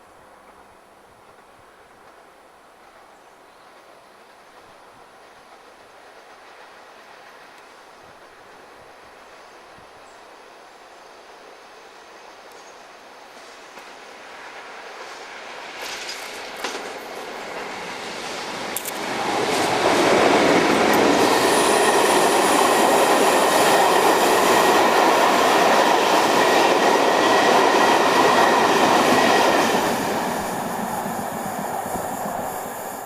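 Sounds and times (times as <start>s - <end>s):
train wheels on rails: 0.0s - 33.0s.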